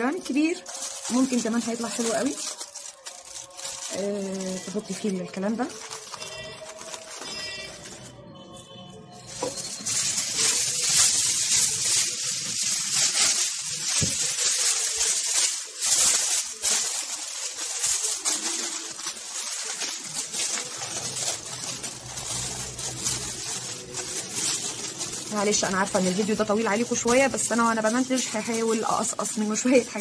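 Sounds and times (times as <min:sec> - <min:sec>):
aluminium foil crinkling: 0:00.0 - 0:30.0.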